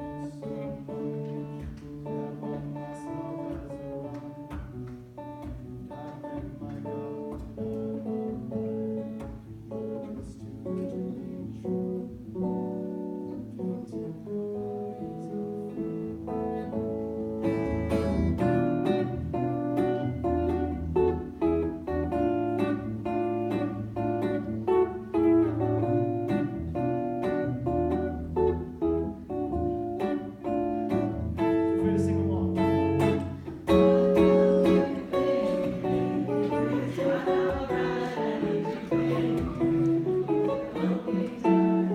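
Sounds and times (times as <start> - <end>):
solo jazz guitar: 0.0 - 41.9.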